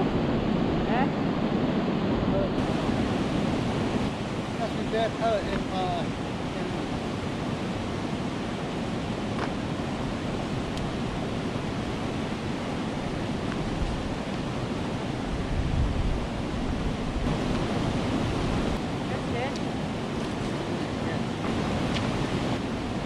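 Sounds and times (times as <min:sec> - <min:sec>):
water rushing over a weir: 0:00.0 - 0:23.0
wind buffeting microphone: 0:00.0 - 0:23.0.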